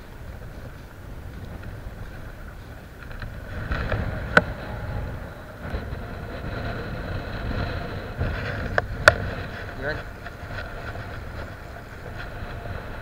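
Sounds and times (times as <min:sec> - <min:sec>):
sea waves: 0:00.0 - 0:13.0
wind on microphone: 0:00.0 - 0:13.0.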